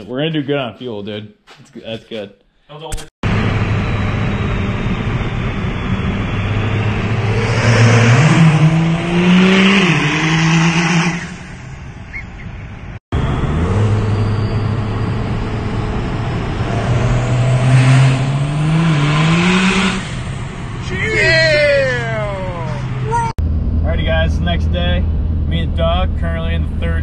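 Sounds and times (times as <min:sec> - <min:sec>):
pickup truck engine accelerating: 0:03.2 - 0:27.0.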